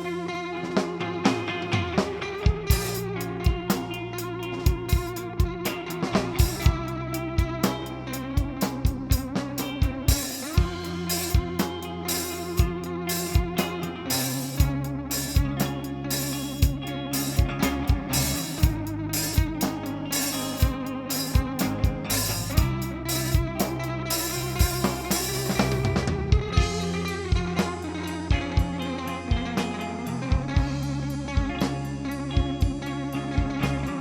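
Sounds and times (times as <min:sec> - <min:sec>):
bass: 0:00.0 - 0:34.0
guitar: 0:00.0 - 0:34.0
drum kit beat: 0:00.8 - 0:32.9.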